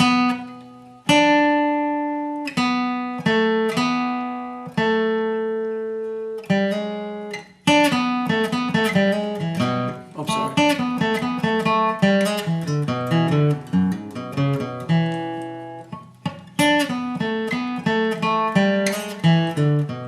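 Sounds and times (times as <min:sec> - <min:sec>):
acoustic guitar picking: 0:00.0 - 0:20.0.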